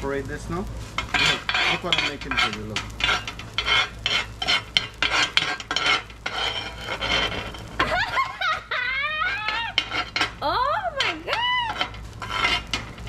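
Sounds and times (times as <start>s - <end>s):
metal spatulas scraping on griddle: 0.8s - 13.0s.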